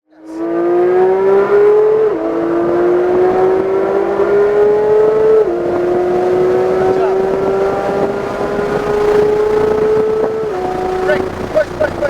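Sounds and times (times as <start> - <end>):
car engine accelerating through gears: 0.1 - 12.0.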